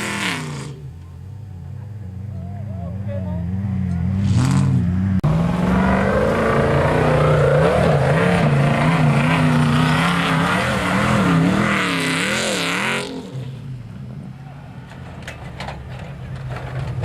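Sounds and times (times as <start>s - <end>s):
car engine revving: 0.0s - 14.8s.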